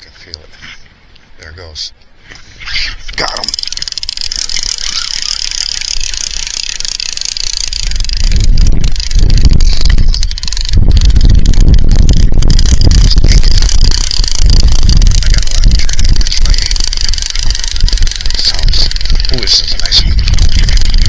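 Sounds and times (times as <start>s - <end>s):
wind buffeting microphone: 3.8s - 21.0s.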